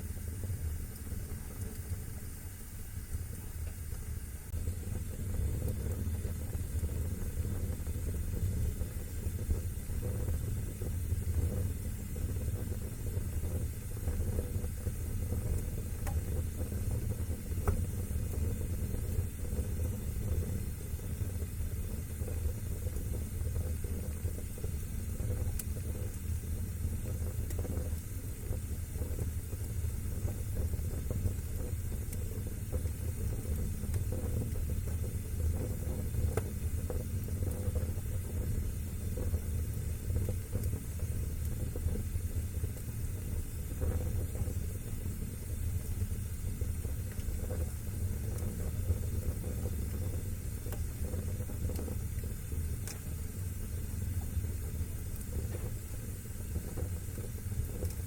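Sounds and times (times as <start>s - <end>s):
faint fire crackles: 0.0s - 58.0s
low rumble of flames: 0.0s - 58.0s.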